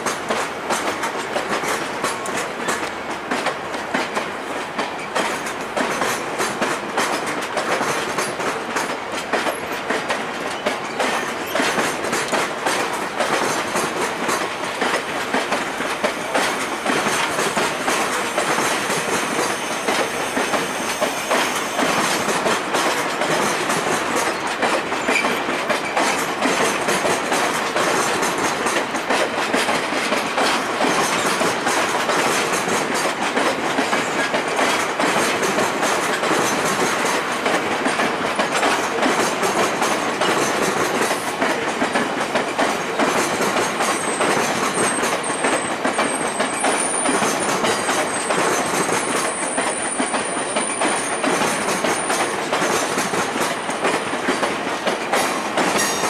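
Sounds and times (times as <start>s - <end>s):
train wheels clacking over track: 0.0s - 56.0s.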